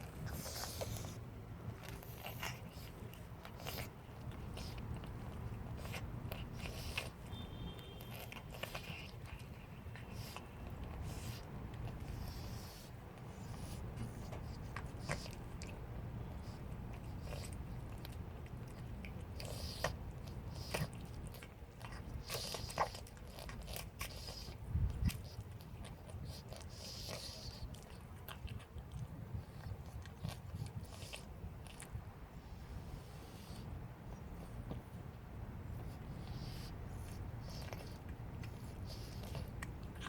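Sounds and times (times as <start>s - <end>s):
cat chewing with crunches: 0.0s - 40.0s.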